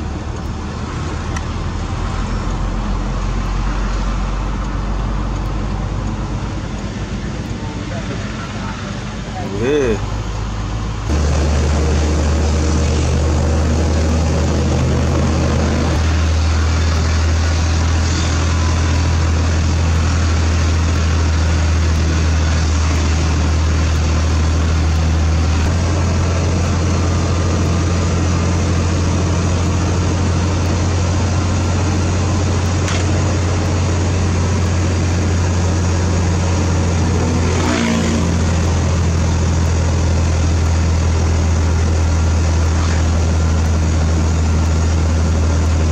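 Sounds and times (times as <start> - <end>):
heavy diesel engine drone: 0.0 - 45.9.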